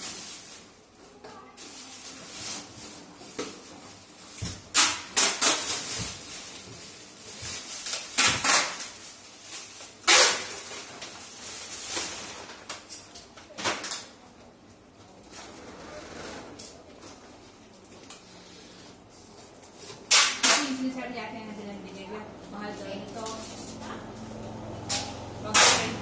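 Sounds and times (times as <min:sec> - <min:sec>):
plastic bags rustling: 0:00.0 - 0:13.2, 0:16.8 - 0:26.0.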